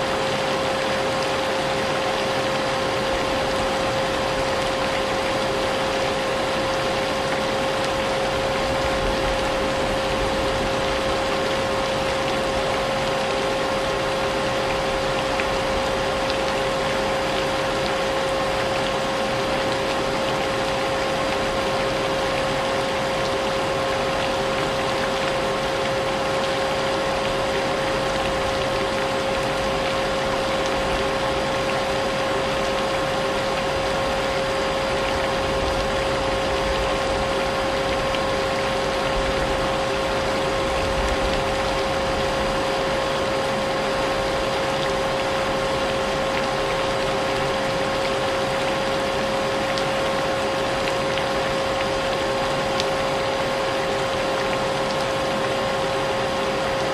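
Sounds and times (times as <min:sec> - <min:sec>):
rain hiss: 0:00.0 - 0:56.9.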